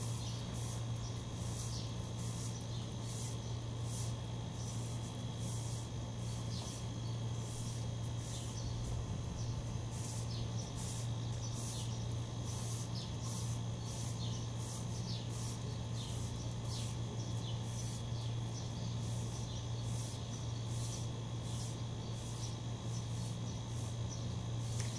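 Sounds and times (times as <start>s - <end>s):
broom sweeping a paved floor: 0.0s - 24.9s
steady low hum: 0.0s - 24.9s.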